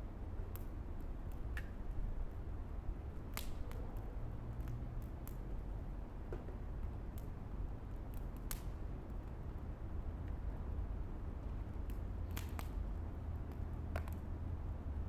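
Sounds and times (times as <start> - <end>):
wood fire crackling: 0.5 - 10.8, 11.4 - 14.3.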